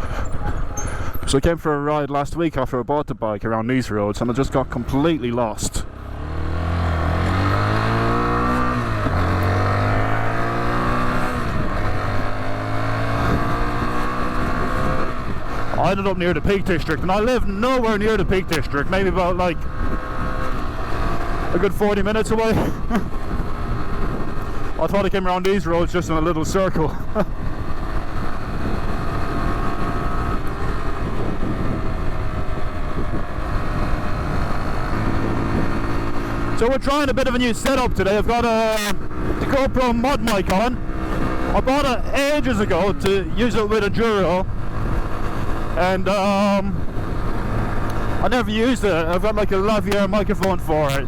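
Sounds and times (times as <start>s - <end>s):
motorcycle engine accelerating: 4.1s - 51.0s
wind buffeting microphone: 5.8s - 50.9s.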